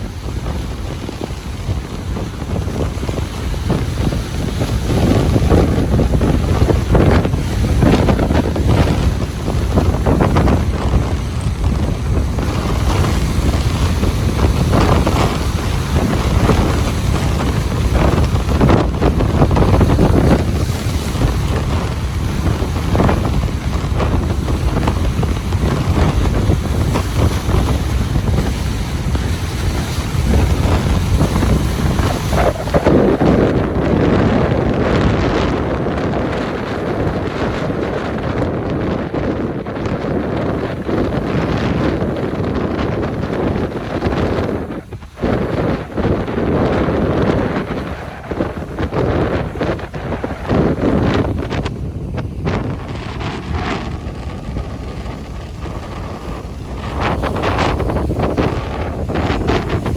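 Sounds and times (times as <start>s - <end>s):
ocean waves breaking on beach: 0.0s - 59.9s
wind rumbling on microphone: 0.0s - 59.9s.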